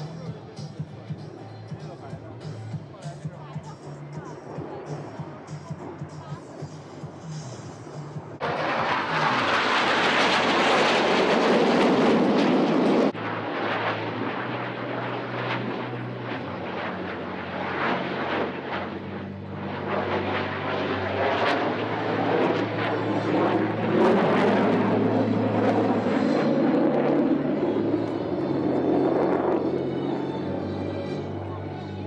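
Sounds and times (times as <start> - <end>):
steady engine drone: 0.0 - 32.0
military jet engine rushing: 4.1 - 32.0.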